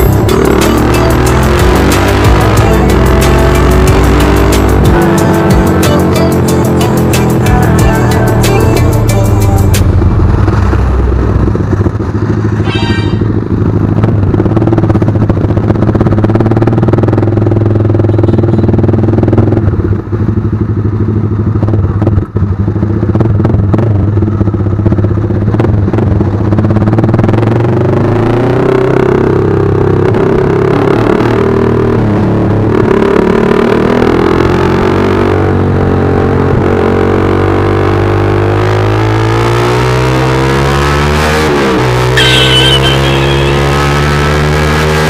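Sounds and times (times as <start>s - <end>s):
motorcycle exhaust running: 0.0s - 45.0s.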